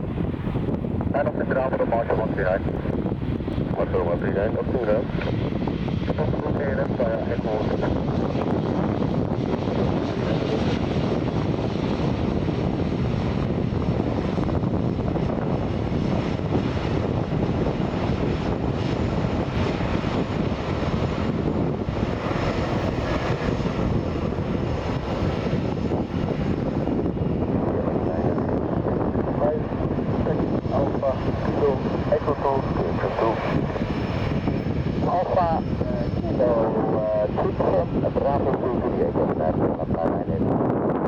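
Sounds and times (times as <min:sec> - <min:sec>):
jet engines running: 0:00.0 - 0:41.0.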